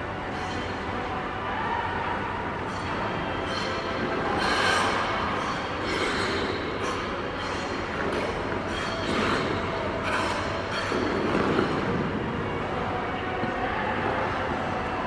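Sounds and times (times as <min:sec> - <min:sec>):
ice arena hum: 0:00.0 - 0:15.0.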